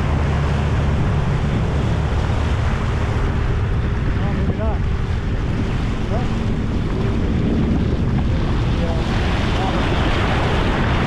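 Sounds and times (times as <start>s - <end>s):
personal watercraft engine hum: 0.0s - 11.0s
water rushing off hull: 0.0s - 11.0s
wind buffeting microphone: 0.0s - 11.0s.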